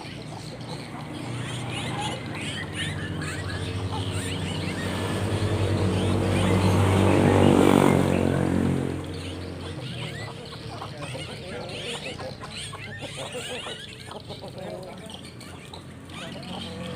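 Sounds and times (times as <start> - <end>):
small birds chirping: 0.0 - 16.9
vehicle engine running: 0.0 - 16.9.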